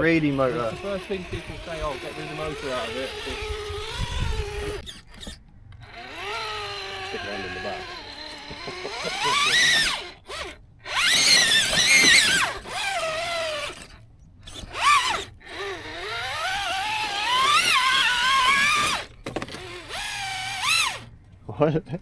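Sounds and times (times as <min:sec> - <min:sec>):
electric motor and gears whining: 0:00.0 - 0:21.3.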